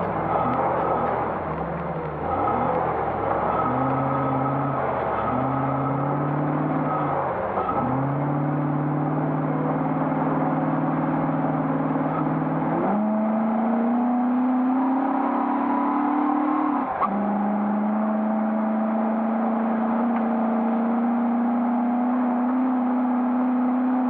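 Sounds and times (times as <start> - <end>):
car engine pulling under throttle: 0.0 - 24.0.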